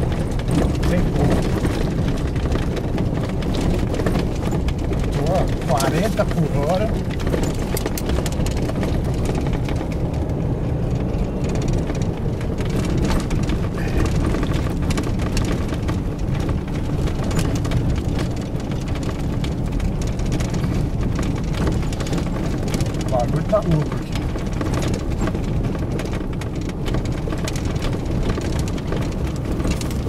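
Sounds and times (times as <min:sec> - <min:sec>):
knocks and rattles: 0:00.0 - 0:30.0
road rumble in car cabin: 0:00.0 - 0:30.0.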